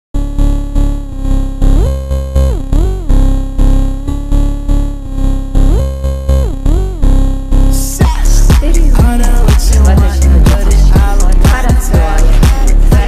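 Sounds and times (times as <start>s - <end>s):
heavy bass pulses: 0.2s - 13.0s.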